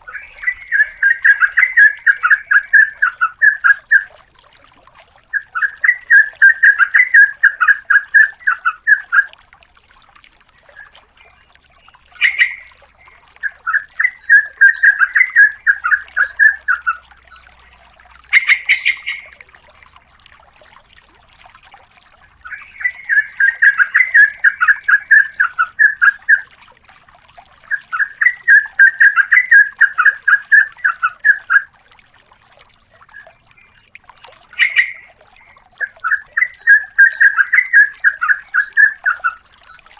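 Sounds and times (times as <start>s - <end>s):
bird singing bubbling notes: 0.0s - 39.9s.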